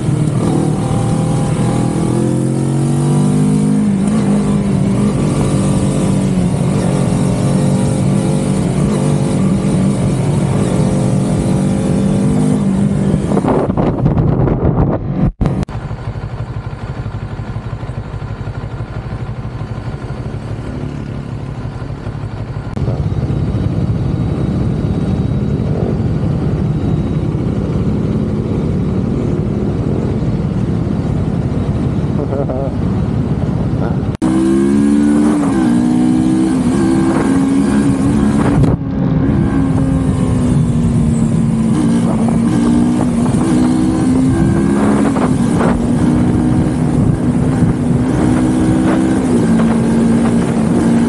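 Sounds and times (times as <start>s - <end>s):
motorcycle engine running: 0.0s - 51.0s
road noise: 0.0s - 51.0s.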